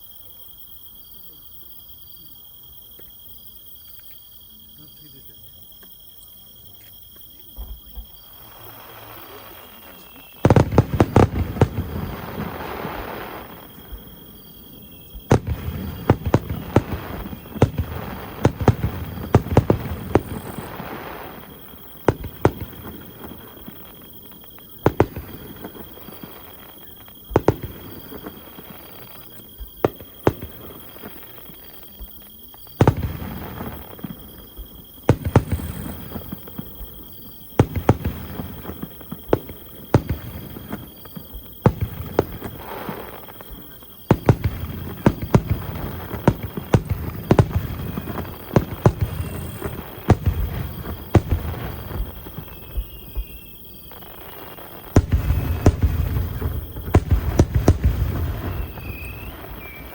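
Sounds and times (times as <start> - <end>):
fireworks bangs and booms: 6.6 - 59.9.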